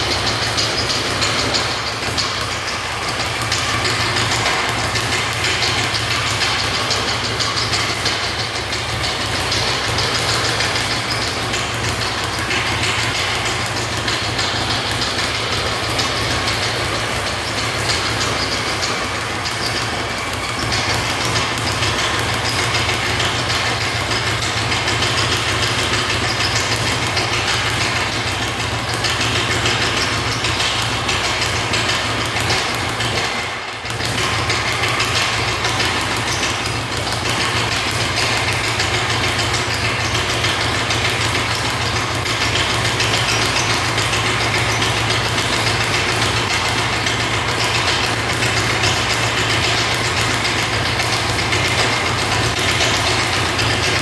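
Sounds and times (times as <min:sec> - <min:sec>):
speed bag drumming rapidly: 0:00.0 - 0:54.0.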